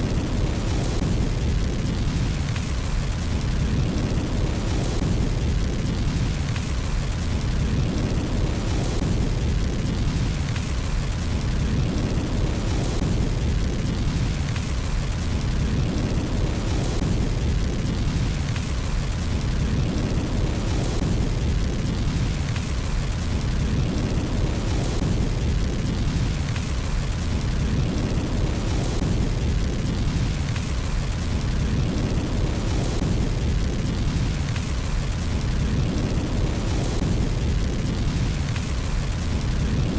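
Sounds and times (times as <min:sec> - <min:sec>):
fireplace fire roaring and hissing: 0:00.0 - 0:39.9.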